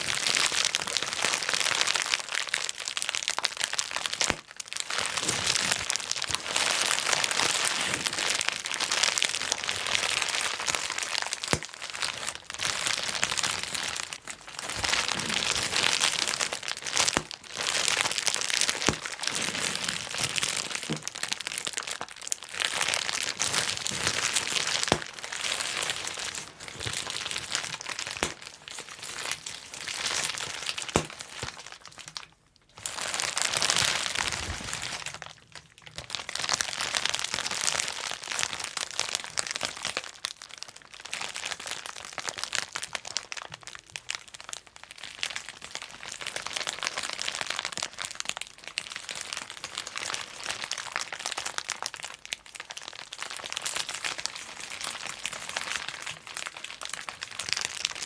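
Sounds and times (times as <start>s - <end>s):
bubble wrap crinkling and popping: 0.0s - 58.0s.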